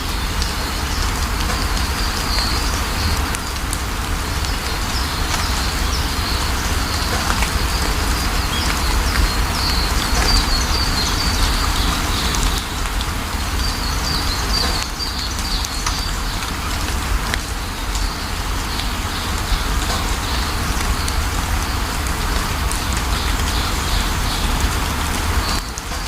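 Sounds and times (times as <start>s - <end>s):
small birds chirping: 0.0s - 26.0s
steady rain falling: 0.0s - 26.0s.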